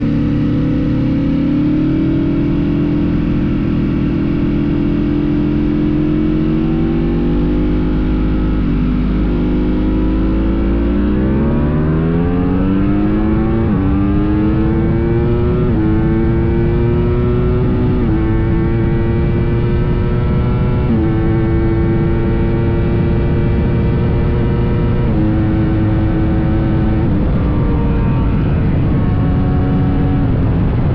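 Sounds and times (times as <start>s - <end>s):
motorcycle engines accelerating: 0.0s - 30.9s.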